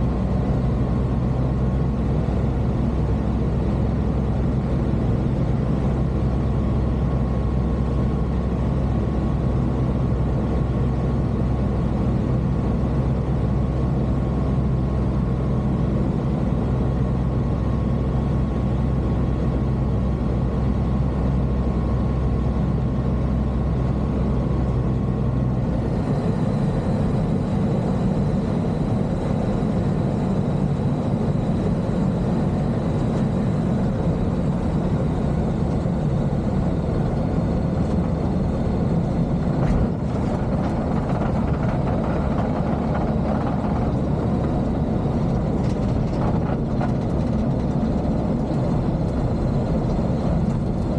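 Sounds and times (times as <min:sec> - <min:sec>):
light aircraft engine running: 0:00.0 - 0:50.9.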